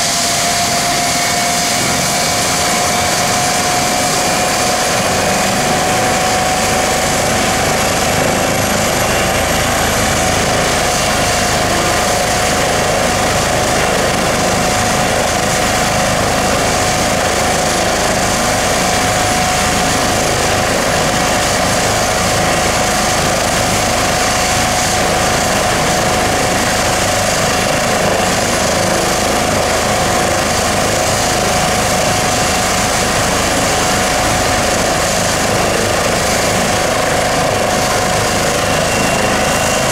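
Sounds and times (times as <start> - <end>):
helicopter rotor turning: 0.0 - 39.9
turbine engine whine: 0.0 - 39.9.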